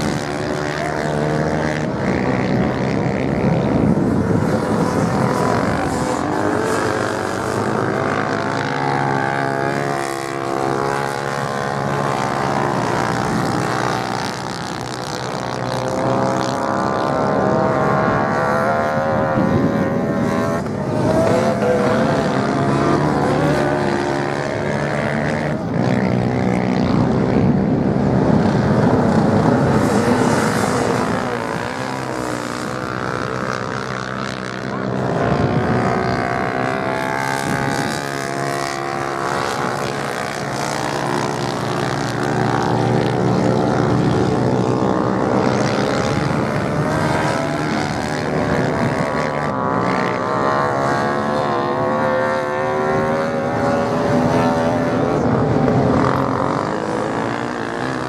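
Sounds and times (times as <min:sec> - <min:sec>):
motorcycle engines racing: 0:00.0 - 0:58.0.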